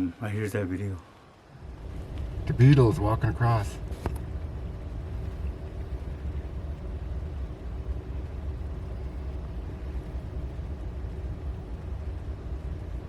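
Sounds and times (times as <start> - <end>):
vehicle engine idling: 1.4 - 13.0.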